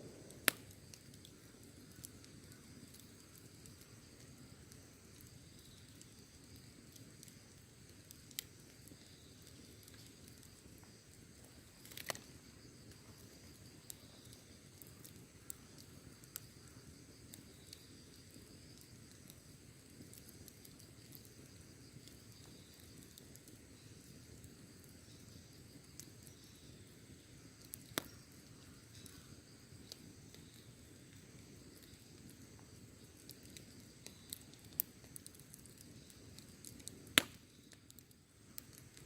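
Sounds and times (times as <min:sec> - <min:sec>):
campfire crackling and popping: 0:00.0 - 0:39.0
insects chirring: 0:00.0 - 0:39.0.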